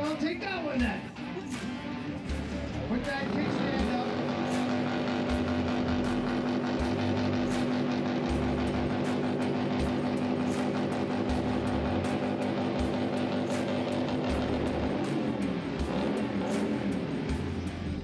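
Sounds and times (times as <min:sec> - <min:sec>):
music playing: 0:00.0 - 0:18.0
motorcycle engine at high revs: 0:02.9 - 0:18.0.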